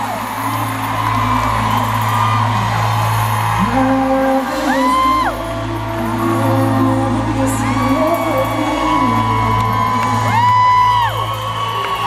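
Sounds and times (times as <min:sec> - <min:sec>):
band music through pa: 0:00.0 - 0:12.0
crowd cheering: 0:00.0 - 0:12.0.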